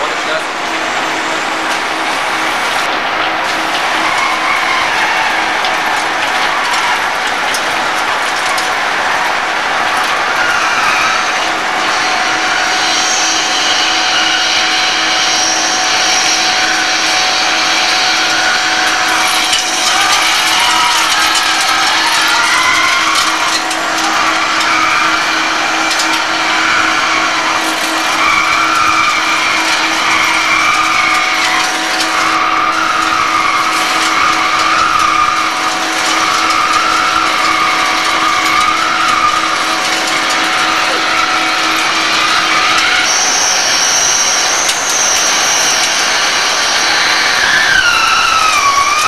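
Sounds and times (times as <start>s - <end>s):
squealing whine of cutting tool: 0.0s - 49.0s
wheel lathe hum: 0.0s - 49.0s
high whistling tone: 8.5s - 49.0s.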